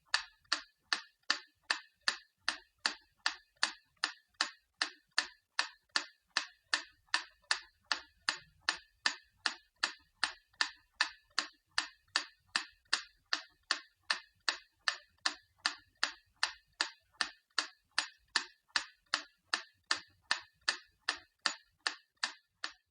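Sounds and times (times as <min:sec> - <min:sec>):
clock ticking fast: 0:00.0 - 0:22.9.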